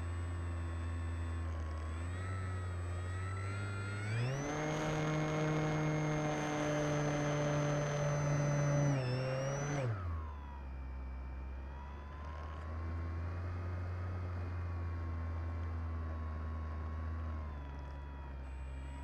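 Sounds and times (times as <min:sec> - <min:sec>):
model plane motor and propeller: 0:00.0 - 0:19.0.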